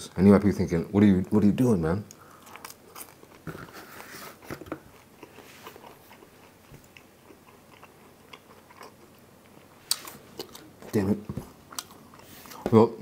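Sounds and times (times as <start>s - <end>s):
chewing pizza with soft crunches: 1.2s - 12.7s.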